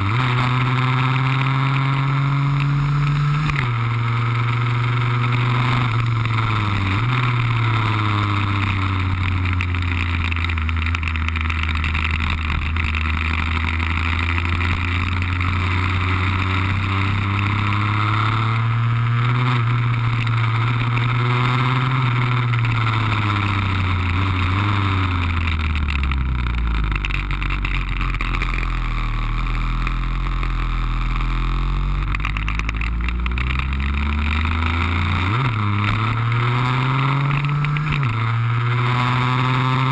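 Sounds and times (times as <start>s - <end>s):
scooter engine at speed: 0.0s - 39.9s.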